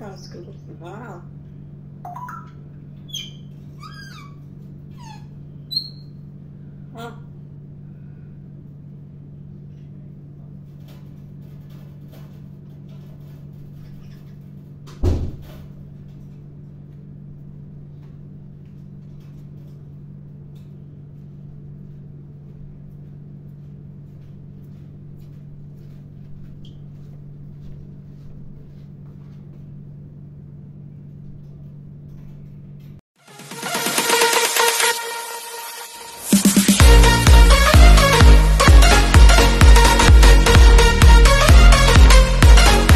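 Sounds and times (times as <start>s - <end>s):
steady low hum: 0.0s - 33.0s, 36.1s - 42.9s.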